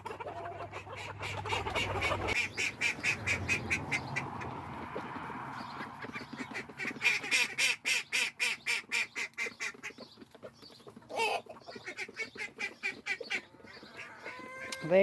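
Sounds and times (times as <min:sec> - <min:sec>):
ducks quacking excitedly: 0:00.0 - 0:15.0.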